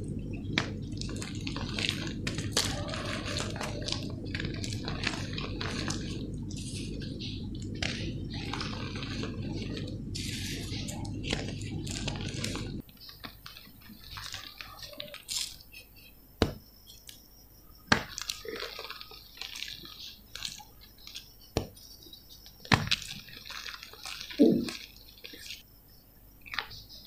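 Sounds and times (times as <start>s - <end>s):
chalk crumbling and crackling: 0.0s - 17.2s, 17.8s - 25.6s
chalk pieces snapping: 0.4s - 17.2s, 17.8s - 21.8s, 22.4s - 25.6s.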